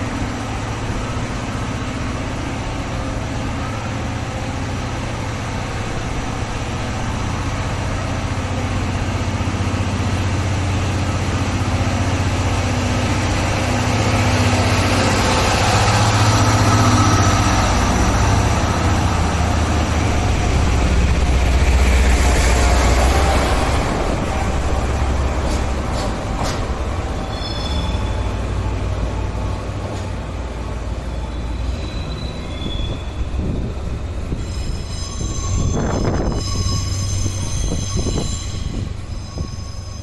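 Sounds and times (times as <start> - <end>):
heavy engine droning: 0.0 - 40.0.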